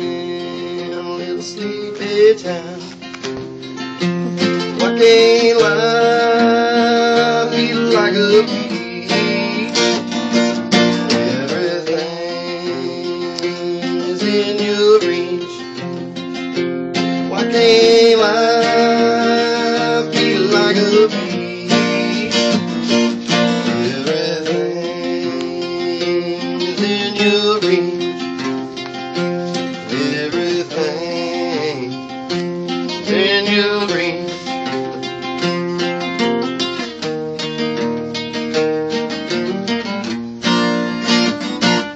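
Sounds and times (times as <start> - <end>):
two acoustic guitars playing: 0.0 - 41.9.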